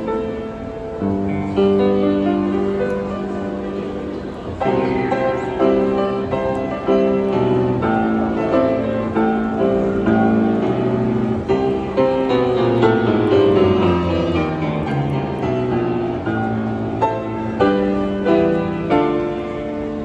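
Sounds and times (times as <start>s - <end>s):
grand piano playing: 0.0s - 20.0s.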